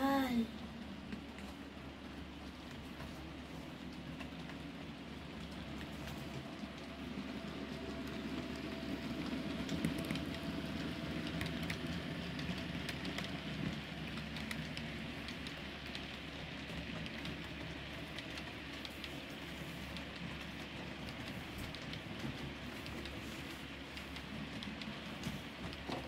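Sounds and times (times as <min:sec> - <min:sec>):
light clicks of train wheels: 0:00.0 - 0:26.0
model trains rolling on track: 0:00.0 - 0:26.0.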